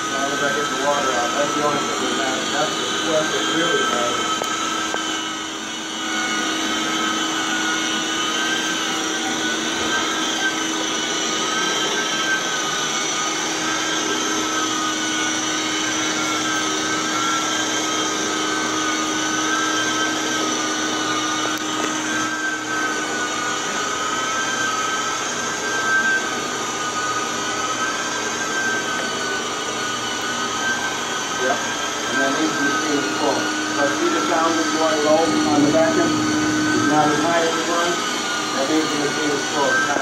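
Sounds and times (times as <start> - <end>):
carpet extractor suction rushing: 0.0 - 40.0
high wavering whine: 0.0 - 40.0.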